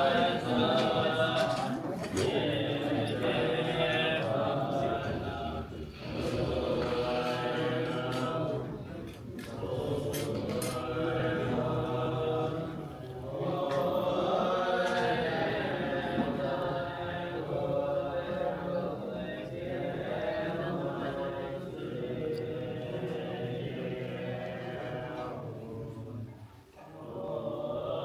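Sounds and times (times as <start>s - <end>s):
monks chanting prayers: 0.0s - 28.0s.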